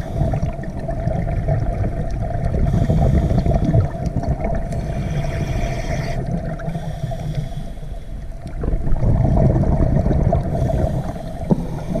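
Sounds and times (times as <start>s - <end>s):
underwater low rumble: 0.0s - 12.0s.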